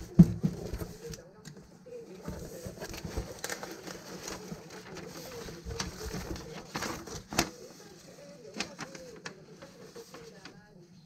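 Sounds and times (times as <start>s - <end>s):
paper and cardboard rustling: 0.0s - 10.9s.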